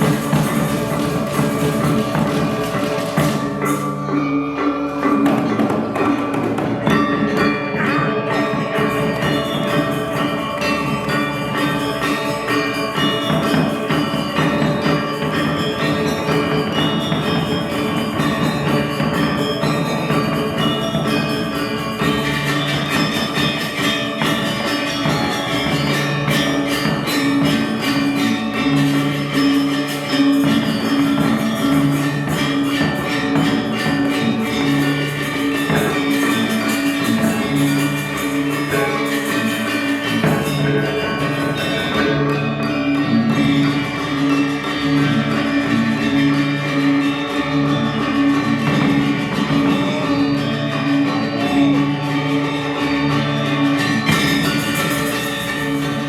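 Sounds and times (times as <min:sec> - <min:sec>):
metallophones and gongs ringing: 0:00.0 - 0:56.0
small cymbals clashing: 0:00.0 - 0:56.0.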